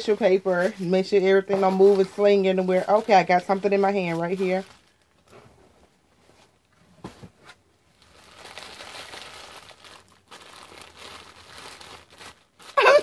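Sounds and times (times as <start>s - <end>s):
tissue paper crinkling: 0.0s - 5.4s, 7.9s - 13.0s.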